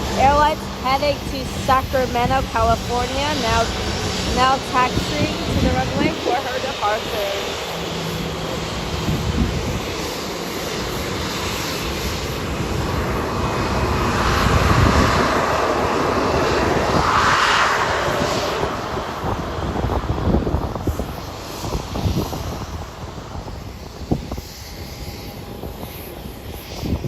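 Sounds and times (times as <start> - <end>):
jet engines passing: 0.0 - 27.0.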